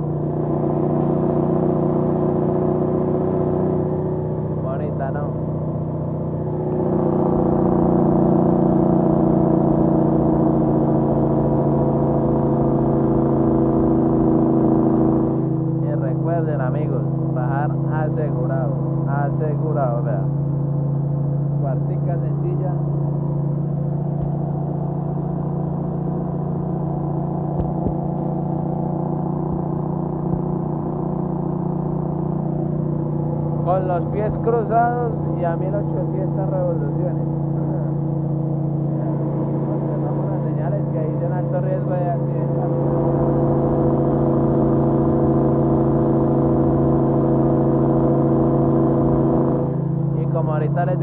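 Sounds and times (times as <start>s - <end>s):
diesel engine braking drone: 0.0s - 51.0s.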